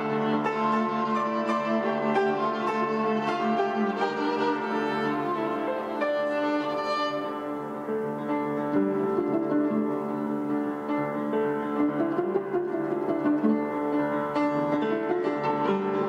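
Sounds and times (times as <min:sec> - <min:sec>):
piano notes: 0:00.0 - 0:16.0
violin long held notes: 0:00.0 - 0:16.0.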